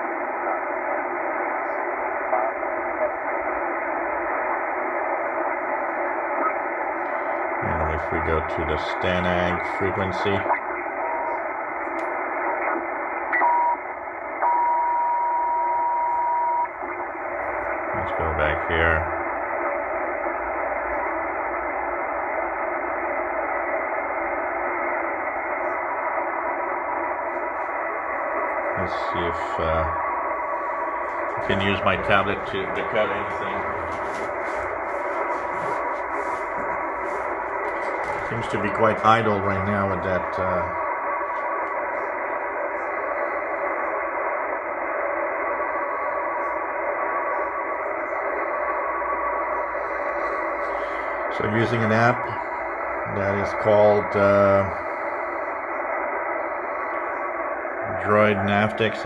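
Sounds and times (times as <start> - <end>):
faint steady tones: 0.0 - 59.0
shortwave radio static hiss: 0.0 - 59.0.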